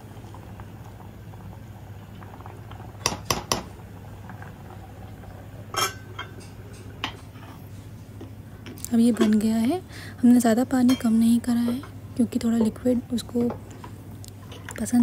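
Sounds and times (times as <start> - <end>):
food boiling in a pot: 0.0 - 15.0.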